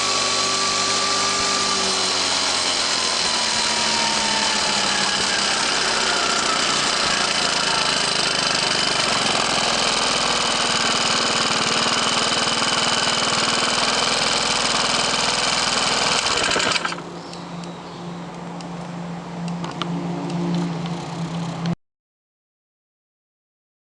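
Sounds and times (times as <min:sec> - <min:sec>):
scooter engine running: 0:00.0 - 0:17.3, 0:19.6 - 0:21.8.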